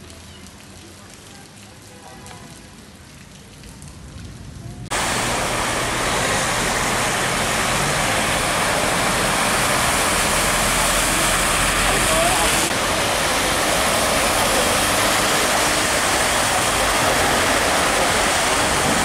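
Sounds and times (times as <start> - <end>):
light rain falling: 0.0 - 19.0
traffic driving through floodwater: 0.0 - 19.0.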